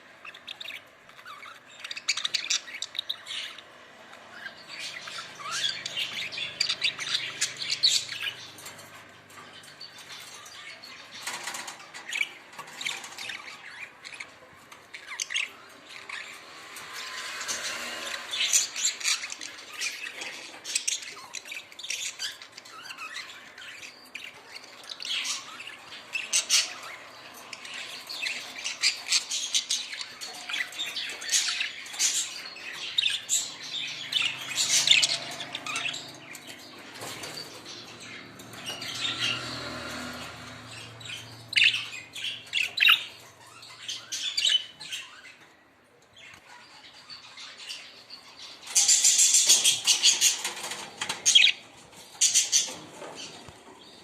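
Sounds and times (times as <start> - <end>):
budgerigars chirping and squawking: 0.0 - 54.0.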